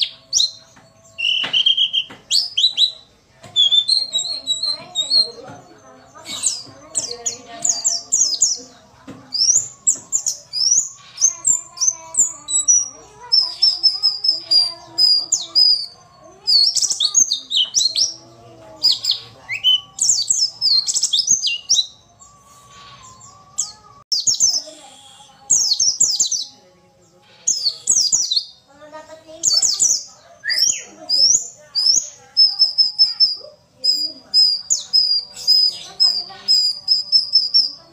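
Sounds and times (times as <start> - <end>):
bird giving rapid high chirps: 0.0 - 5.5, 6.1 - 8.7, 9.3 - 18.2, 18.8 - 23.3, 27.2 - 28.6, 29.4 - 37.9.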